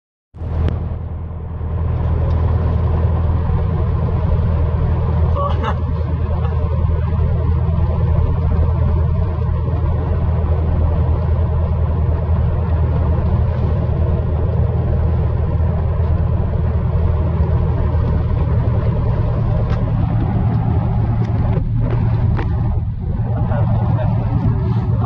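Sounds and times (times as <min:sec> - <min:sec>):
aircraft engine droning: 0:00.4 - 0:25.0.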